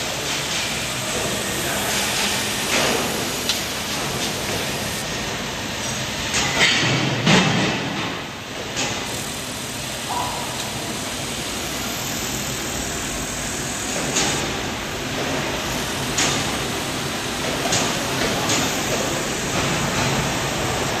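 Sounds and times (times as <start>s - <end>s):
steady machinery noise: 0.0s - 21.0s.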